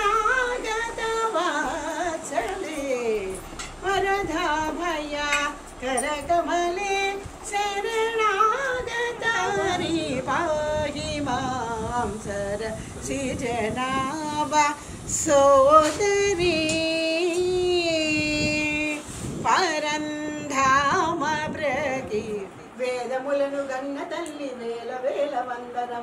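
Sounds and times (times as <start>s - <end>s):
women singing: 0.0s - 26.0s.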